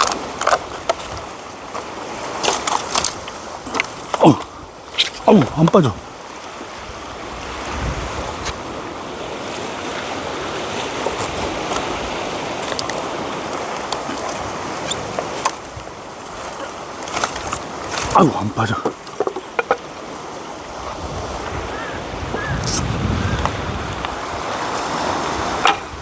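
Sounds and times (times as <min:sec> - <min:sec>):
sea waves washing onto shore: 0:00.0 - 0:26.0.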